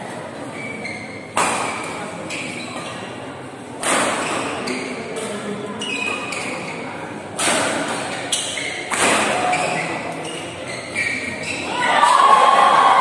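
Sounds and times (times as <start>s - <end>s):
murmur of spectators: 0.0s - 13.0s.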